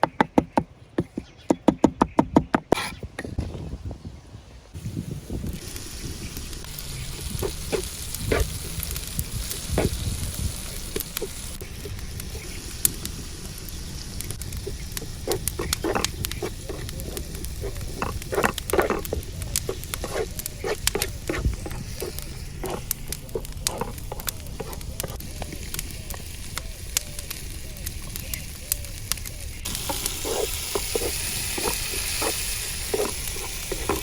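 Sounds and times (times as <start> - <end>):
food sizzling in a frying pan: 4.8 - 34.0.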